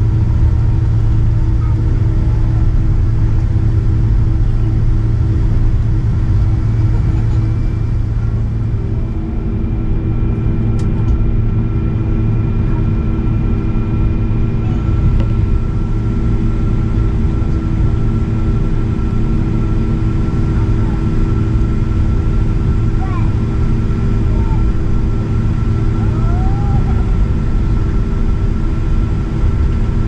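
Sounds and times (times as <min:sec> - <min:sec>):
low rumble of jet engines: 0:00.0 - 0:30.0
steady whining tones: 0:00.0 - 0:30.0.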